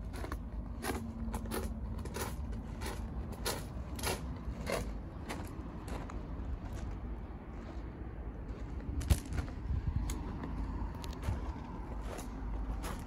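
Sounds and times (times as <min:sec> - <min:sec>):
footsteps crunching on gravel: 0:00.0 - 0:13.0
steady low rumble: 0:00.0 - 0:13.0.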